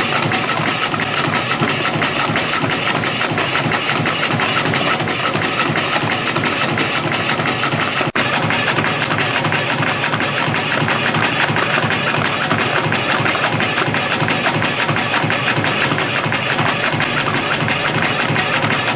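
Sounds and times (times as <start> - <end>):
spring coiling machine clatter: 0.0 - 18.9.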